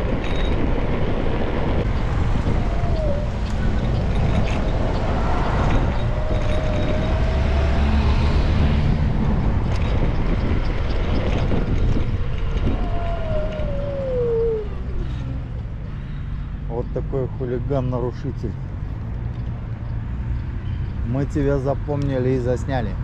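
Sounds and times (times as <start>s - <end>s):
wind and wheels rumble: 0.0s - 23.0s.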